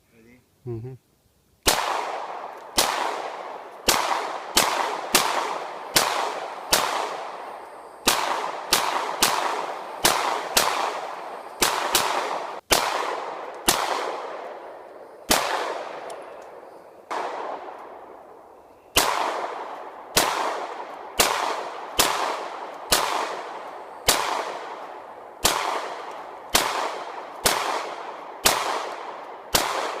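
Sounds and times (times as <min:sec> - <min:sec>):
pistol shots echoing: 0:01.6 - 0:30.0.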